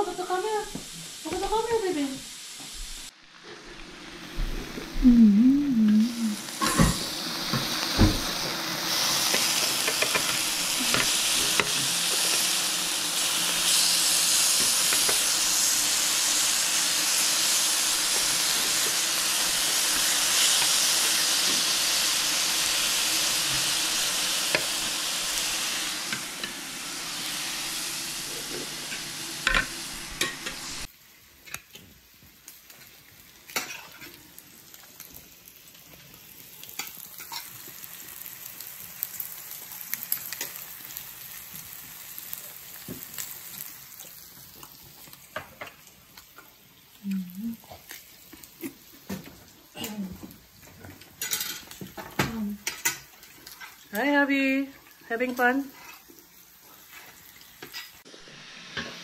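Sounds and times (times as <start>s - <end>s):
meat sizzling on a grill pan: 0.0s - 59.0s.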